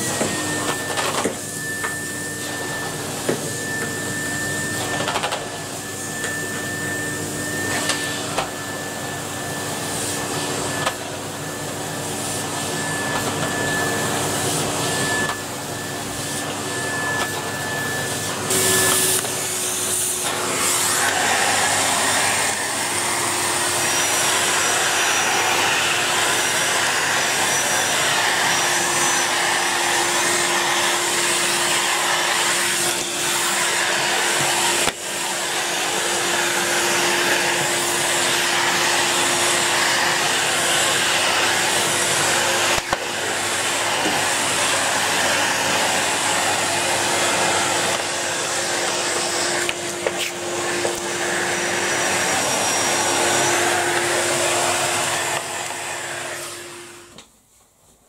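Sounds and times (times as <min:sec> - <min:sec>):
floor tool on wooden floor: 0:00.0 - 0:57.3
vacuum cleaner running: 0:00.0 - 0:57.4.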